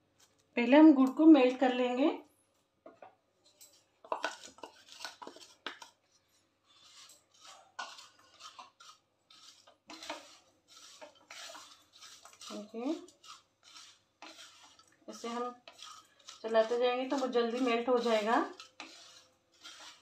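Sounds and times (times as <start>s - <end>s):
spoon scraping inside metal pan: 3.5s - 20.0s.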